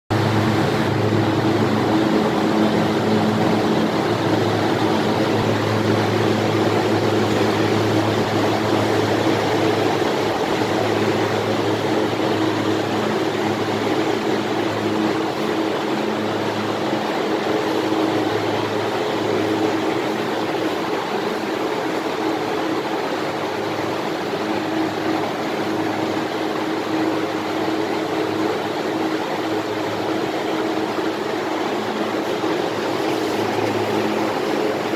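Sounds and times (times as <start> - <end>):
evaporator fan air rushing: 0.1 - 34.9
low even hum: 0.1 - 34.9.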